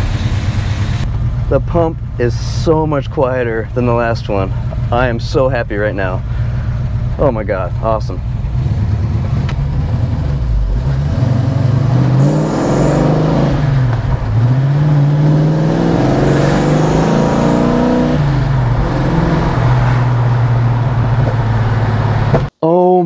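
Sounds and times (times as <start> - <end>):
car engine accelerating: 0.0 - 22.5.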